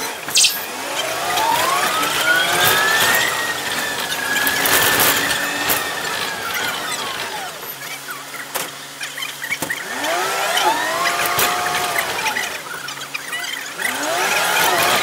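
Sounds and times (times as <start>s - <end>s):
bus drivetrain whine: 0.0s - 15.0s.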